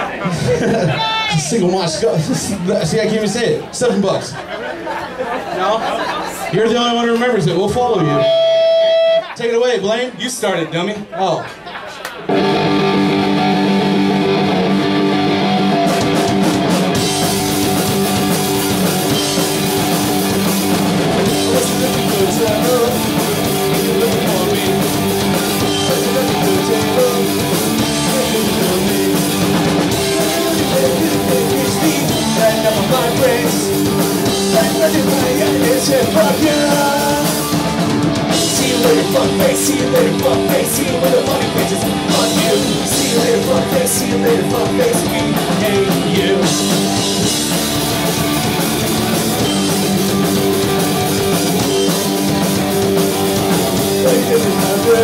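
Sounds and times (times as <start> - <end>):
punk rock band playing: 7.3 - 9.4, 12.2 - 55.0.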